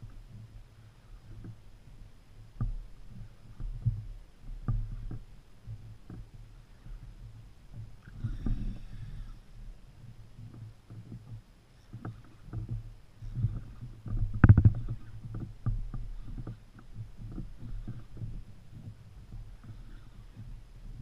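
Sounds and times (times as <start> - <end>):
water sloshing against kayak: 0.0 - 21.0.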